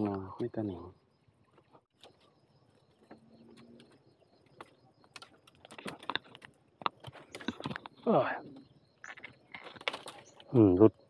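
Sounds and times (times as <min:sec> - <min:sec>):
dry bamboo and leaves crackling: 0:01.5 - 0:11.0.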